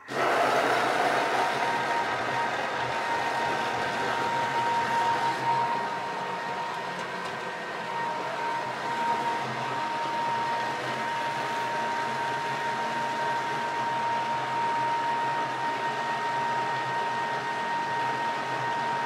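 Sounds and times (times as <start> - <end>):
food processor motor whirring: 0.0 - 19.0.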